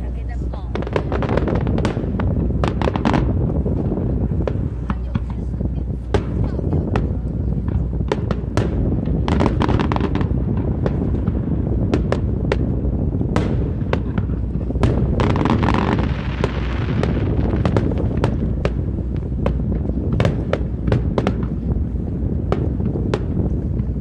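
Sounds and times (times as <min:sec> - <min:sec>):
fireworks bangs: 0:00.0 - 0:24.0
low rumble: 0:00.0 - 0:24.0.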